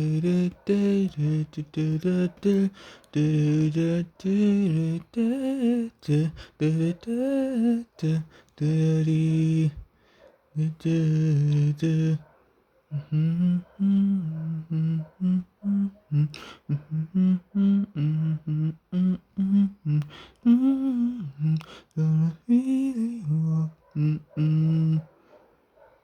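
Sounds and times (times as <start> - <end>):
man humming: 0.0 - 9.9, 10.6 - 12.2, 12.9 - 25.1.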